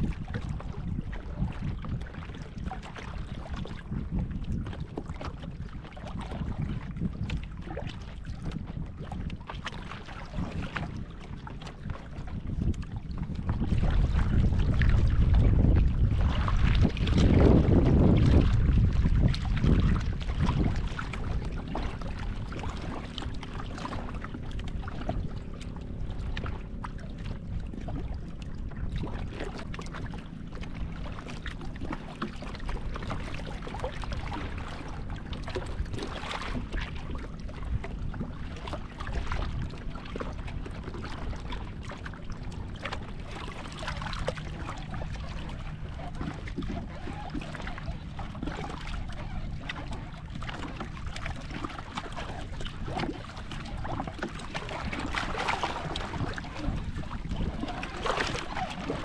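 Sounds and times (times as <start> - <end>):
water lapping against boat: 0.0 - 59.0
wind on microphone: 0.0 - 59.0.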